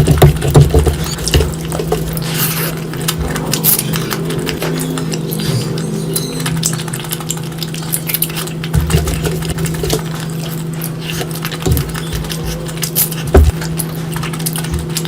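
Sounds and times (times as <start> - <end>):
steady low hum: 0.0 - 15.0
wet chewing and smacking: 0.0 - 15.0.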